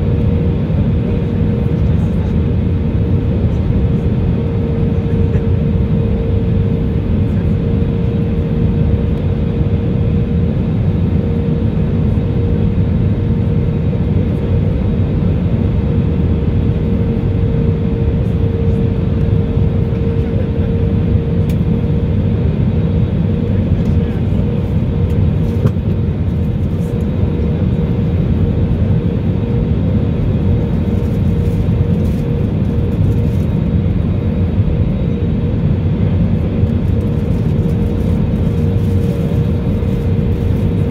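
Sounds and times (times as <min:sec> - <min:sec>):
deep roar of airflow: 0:00.0 - 0:40.9
jet engines roaring: 0:00.0 - 0:40.9.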